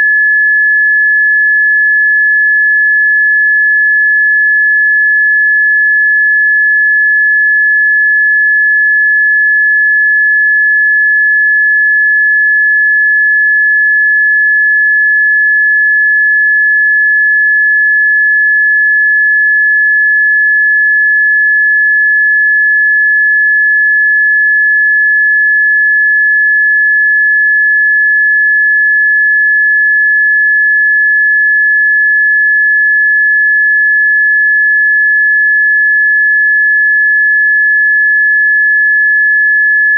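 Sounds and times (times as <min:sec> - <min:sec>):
high-pitched sine tone: 0:00.0 - 0:39.9.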